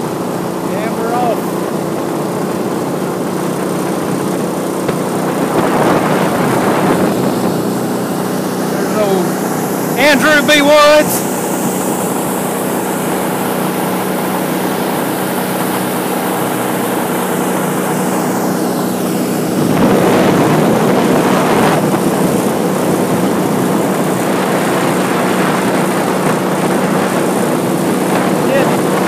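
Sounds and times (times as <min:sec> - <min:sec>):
boat motor running: 0:00.0 - 0:29.0
water wash: 0:00.0 - 0:29.0
wind noise: 0:01.4 - 0:29.0.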